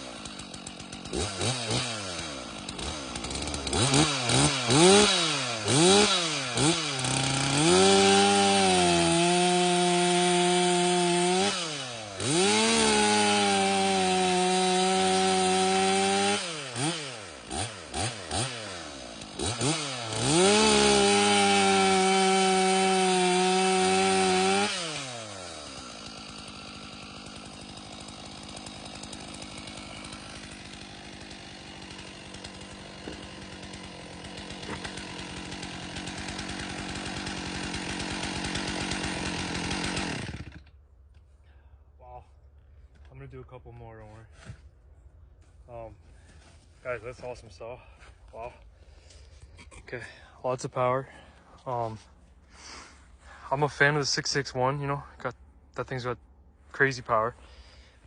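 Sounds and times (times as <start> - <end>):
chainsaw revving and idling: 0.0 - 40.8, 45.7 - 58.0.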